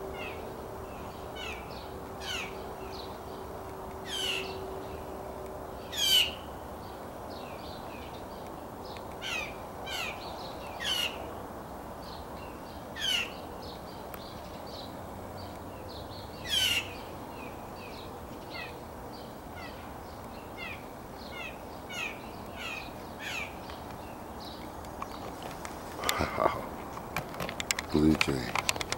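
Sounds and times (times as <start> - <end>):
blue jay calling: 0.0 - 28.9.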